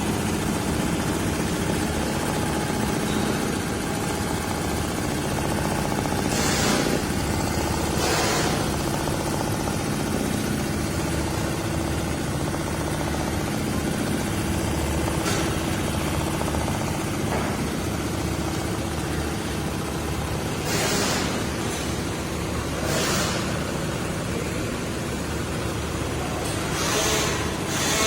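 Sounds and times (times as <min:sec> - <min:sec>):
embroidery machine stitching: 0:00.0 - 0:24.3, 0:26.0 - 0:28.0.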